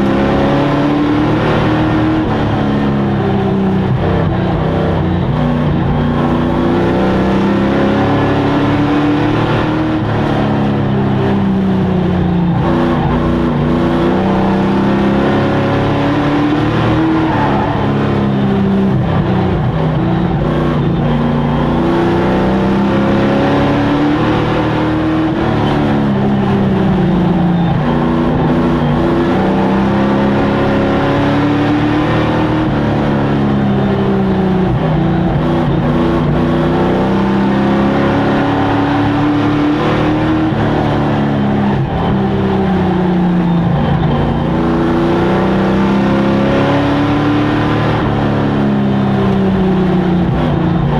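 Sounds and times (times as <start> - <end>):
racing truck engines: 0.0 - 50.9.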